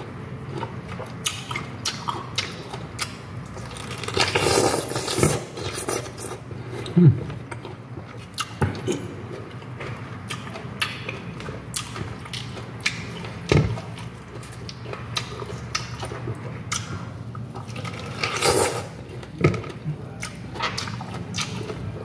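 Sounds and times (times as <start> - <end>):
chewing with wet mouth smacks: 0.4 - 22.0.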